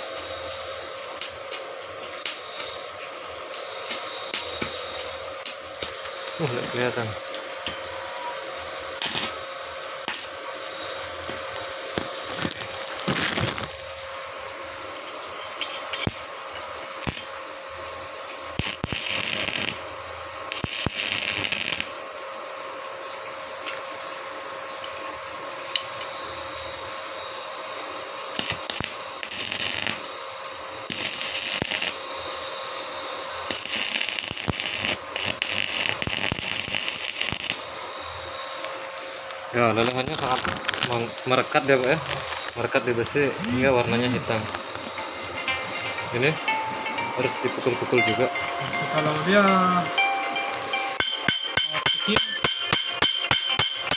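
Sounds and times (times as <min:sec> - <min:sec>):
welding arc crackling: 0:00.0 - 0:24.0, 0:25.2 - 0:53.9.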